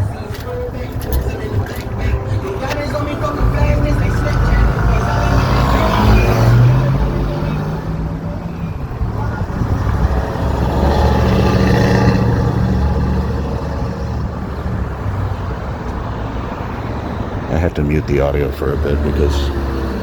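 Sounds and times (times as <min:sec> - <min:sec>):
car driving past: 0:01.4 - 0:17.7.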